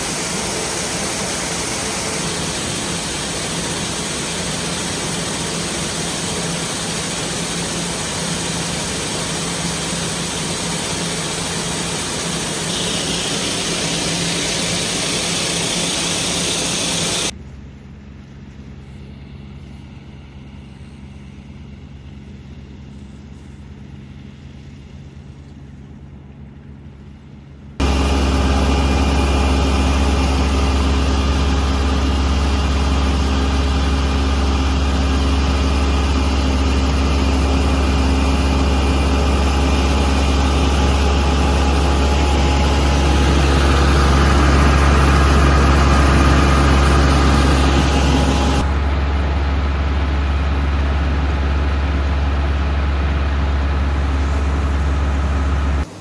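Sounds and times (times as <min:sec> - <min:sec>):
loud machine deep drone: 0:00.0 - 0:17.3, 0:27.8 - 0:55.9.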